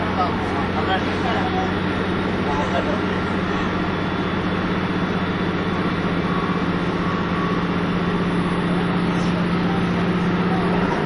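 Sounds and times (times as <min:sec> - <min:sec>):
diesel railcar engine droning: 0:00.0 - 0:11.0.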